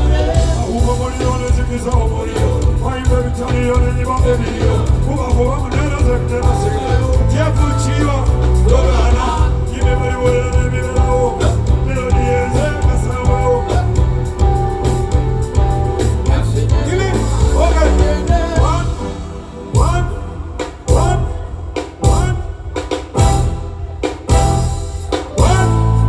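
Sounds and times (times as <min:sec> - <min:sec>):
pulsing bass beat: 0:00.0 - 0:19.0, 0:20.9 - 0:22.5, 0:24.3 - 0:26.0
person singing: 0:00.0 - 0:23.1, 0:25.1 - 0:26.0
loud band music: 0:00.0 - 0:26.0.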